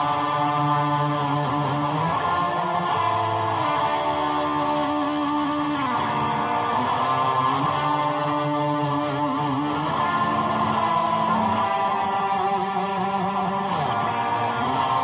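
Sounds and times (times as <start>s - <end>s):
electric guitar sustained notes: 0.0s - 15.0s.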